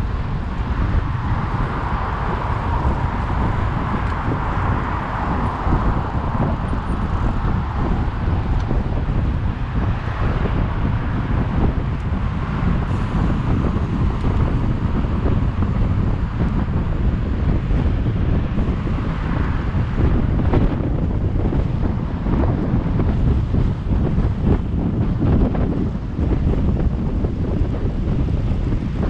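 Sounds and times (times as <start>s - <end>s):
city road traffic: 0.0s - 29.0s
wind buffeting microphone: 0.0s - 29.0s.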